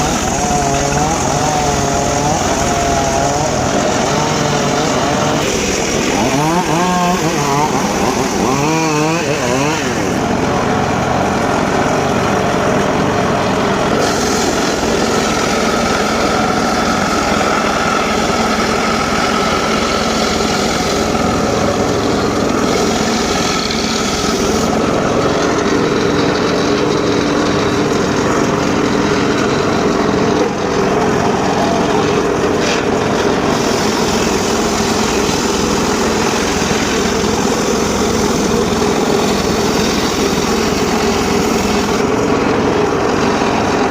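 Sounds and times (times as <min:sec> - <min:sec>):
circular saw cutting wood: 0:00.0 - 0:43.9.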